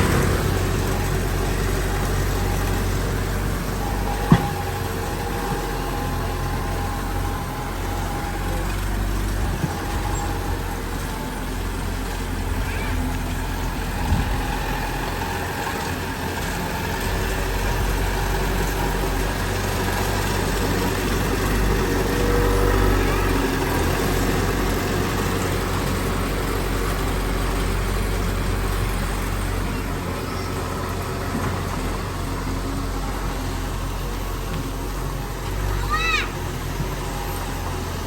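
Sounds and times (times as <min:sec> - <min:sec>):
diesel construction machinery running: 0:00.0 - 0:38.0.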